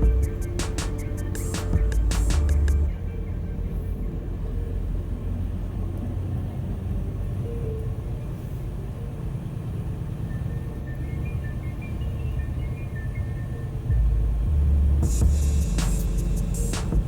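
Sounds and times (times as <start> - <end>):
truck engine and tyres rumbling: 0.0 - 17.0.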